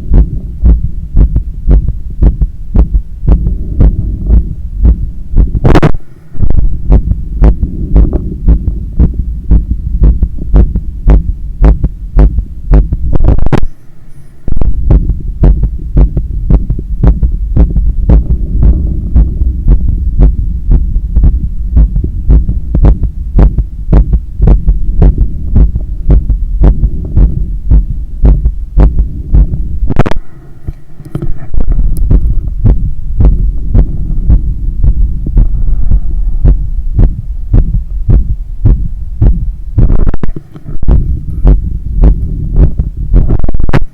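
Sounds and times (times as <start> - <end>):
fast heartbeat through stethoscope: 0.0 - 13.7, 14.5 - 30.2, 31.4 - 43.9.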